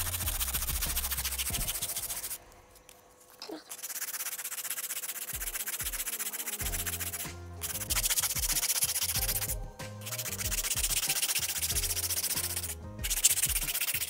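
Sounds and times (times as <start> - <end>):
nail file rasping: 0.0 - 2.4, 3.4 - 14.0.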